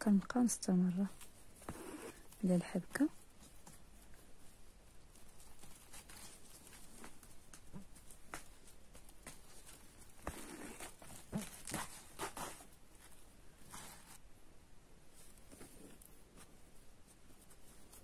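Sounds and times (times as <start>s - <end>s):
needle and thread through cloth: 0.0s - 14.2s, 15.0s - 18.0s.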